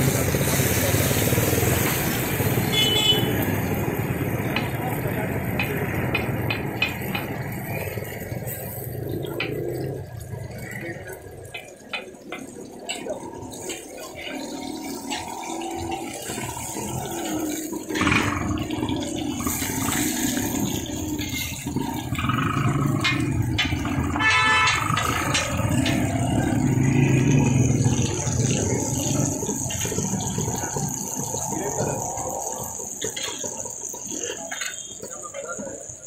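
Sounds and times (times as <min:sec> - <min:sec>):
kebabs sizzling on griddle: 0:00.0 - 0:36.0.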